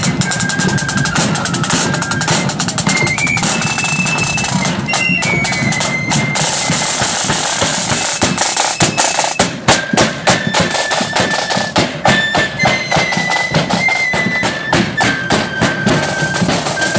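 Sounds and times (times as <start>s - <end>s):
flutes playing tune: 0.0s - 16.9s
side drum rapid strokes: 0.0s - 16.9s.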